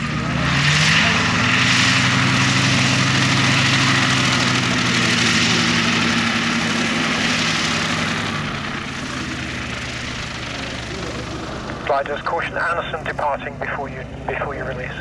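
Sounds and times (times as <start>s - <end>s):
propeller aircraft engine running: 0.0s - 15.0s.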